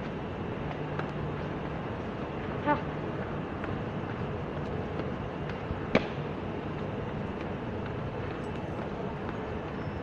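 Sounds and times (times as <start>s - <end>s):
metro train rumbling: 0.0s - 10.0s.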